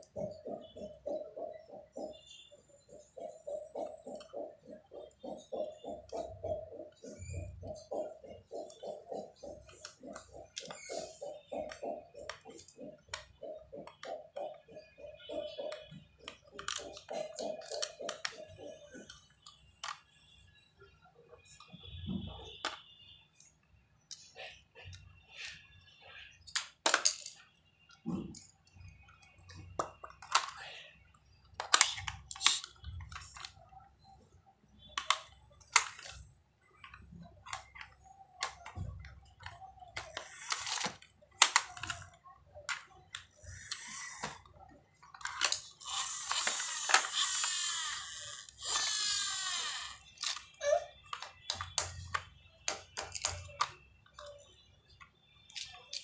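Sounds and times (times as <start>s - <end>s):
small plastic objects clicking: 2.9s - 20.2s, 21.4s - 25.1s, 26.4s - 30.8s, 31.5s - 34.2s, 34.8s - 56.0s.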